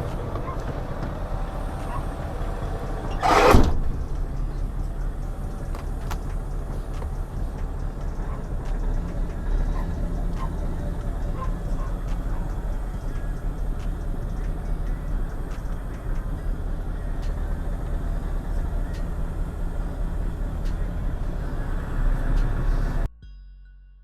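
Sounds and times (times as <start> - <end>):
truck engine idling drone: 0.0 - 23.1.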